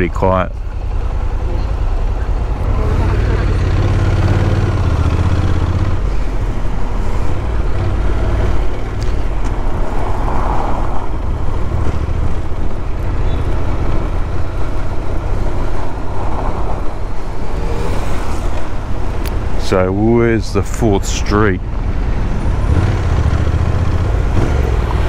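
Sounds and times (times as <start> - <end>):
motorcycle engine rumbling: 0.0 - 25.0
road and traffic noise: 0.0 - 25.0.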